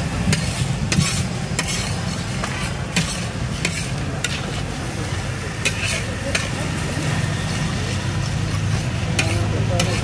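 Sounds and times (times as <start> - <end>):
steel spatula scraping: 0.2 - 4.9, 5.6 - 6.6, 7.3 - 10.0
food sizzling on iron griddle: 0.2 - 10.0.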